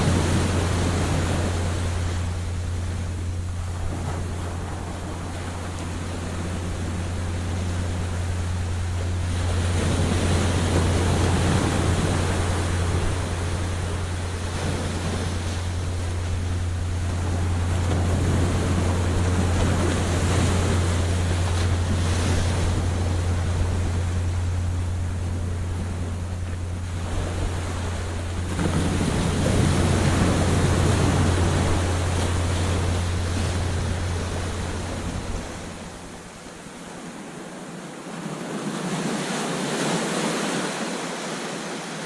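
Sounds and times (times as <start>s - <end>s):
steady low hum: 0.0s - 38.2s
ocean surf breaking: 0.0s - 42.0s.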